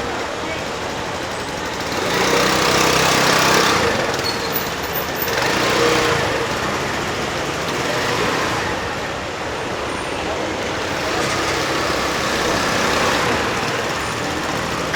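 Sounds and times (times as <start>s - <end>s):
vehicle engines passing: 0.0s - 14.9s.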